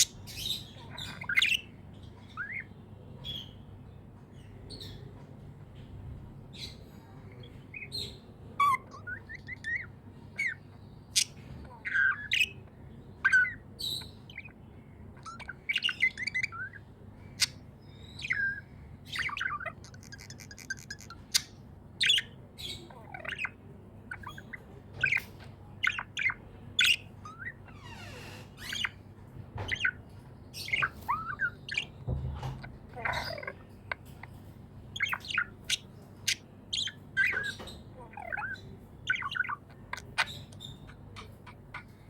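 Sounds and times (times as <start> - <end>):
budgerigars chirping: 0.0 - 5.0, 6.5 - 42.0.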